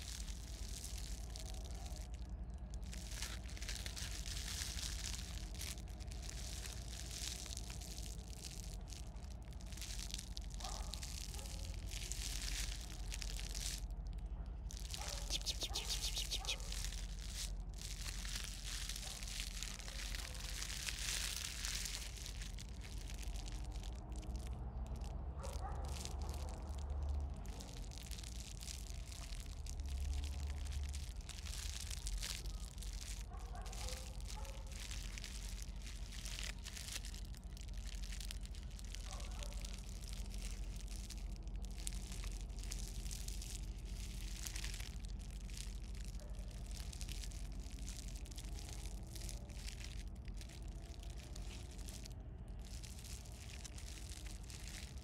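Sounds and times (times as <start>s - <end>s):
low outdoor rumble: 0.0s - 55.0s
rustling and scratching in leaves: 0.0s - 55.0s.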